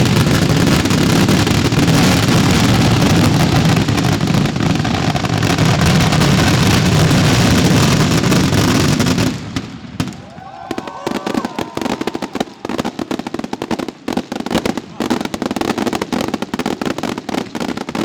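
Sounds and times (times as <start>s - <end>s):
fireworks barrage rumbling: 0.0s - 18.0s
fireworks crackle: 0.0s - 18.0s.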